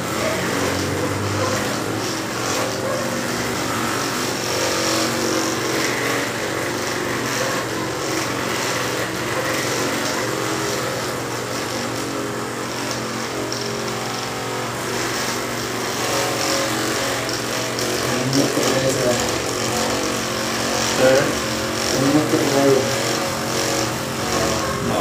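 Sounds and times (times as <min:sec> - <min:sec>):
motor running steadily: 0:00.0 - 0:25.0.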